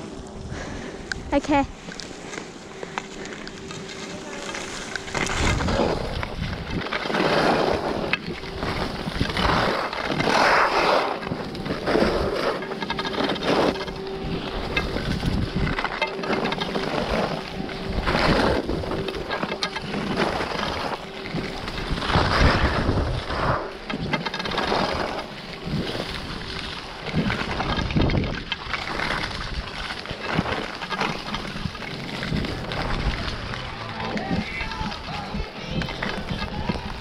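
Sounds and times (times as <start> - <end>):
faint steady hum: 0.0 - 37.0
skis scraping on snow: 1.7 - 37.0
wind rumbling on microphone: 3.2 - 37.0.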